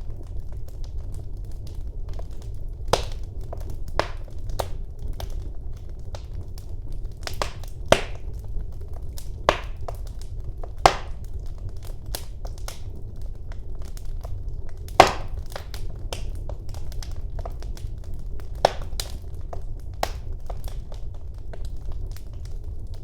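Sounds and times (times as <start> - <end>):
burning wood crackling and popping: 0.0 - 23.0
fire flames rumbling: 0.0 - 23.0.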